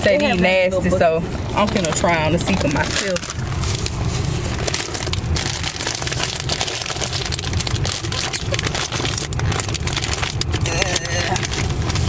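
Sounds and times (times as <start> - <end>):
car low rumble: 0.0 - 12.0
plastic snack bag crinkling: 1.5 - 12.0.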